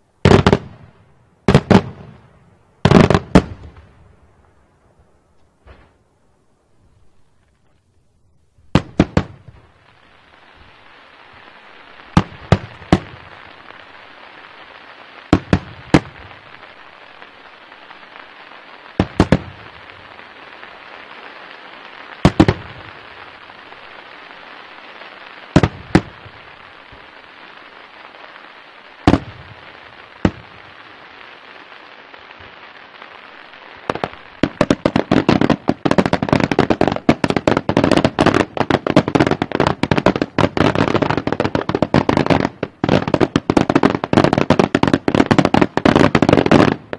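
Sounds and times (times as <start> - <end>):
fireworks bangs: 0.0 - 6.2, 8.6 - 46.9
fireworks crackles: 0.0 - 46.9
steady hiss: 0.0 - 46.9.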